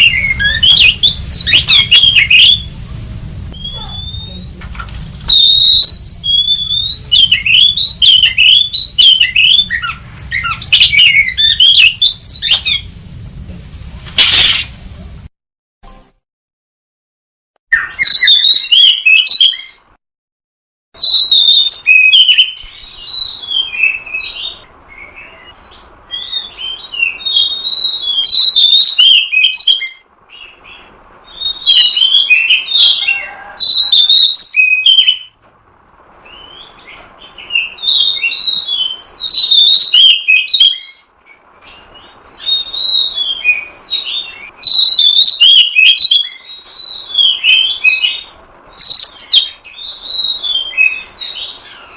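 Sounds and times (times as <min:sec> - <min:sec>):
bird whistles and chirps: 0:00.0 - 0:02.8, 0:03.5 - 0:04.6, 0:05.3 - 0:12.9, 0:17.7 - 0:19.8, 0:21.0 - 0:35.4, 0:36.2 - 0:51.9.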